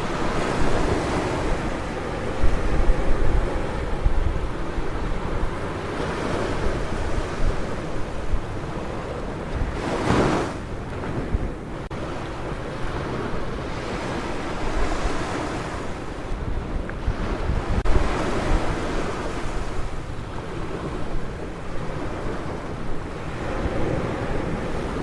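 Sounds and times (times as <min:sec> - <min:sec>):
ocean surf washing onto beach: 0:00.0 - 0:25.0
wind buffeting microphone: 0:00.0 - 0:25.0.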